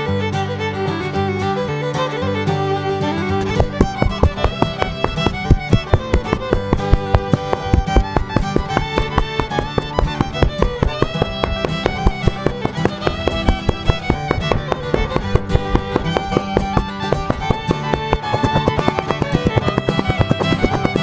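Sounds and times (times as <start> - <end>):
fast fiddle tune: 3.4 - 21.0
quick steady beat: 3.4 - 21.0.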